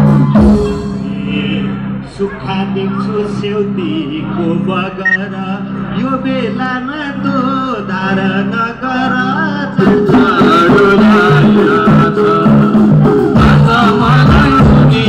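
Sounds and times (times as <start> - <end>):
folk band over loudspeakers: 0.0 - 15.0
person singing: 0.4 - 15.0.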